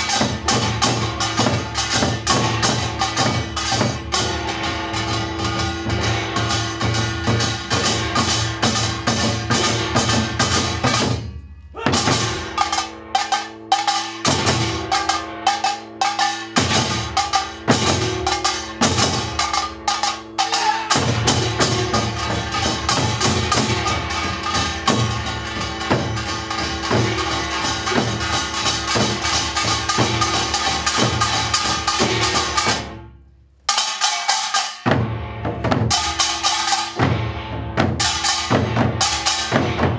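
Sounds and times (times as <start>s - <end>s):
rapid percussion strikes: 0.0s - 39.9s.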